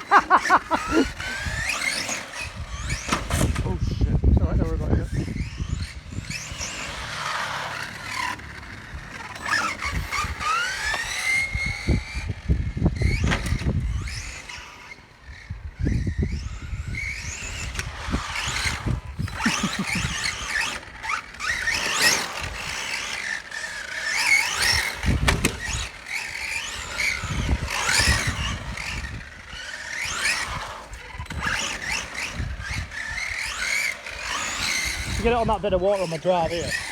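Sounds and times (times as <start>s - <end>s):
tyres scrabbling on asphalt: 0.0s - 4.0s, 4.8s - 36.9s
electric motor whining: 0.0s - 36.9s.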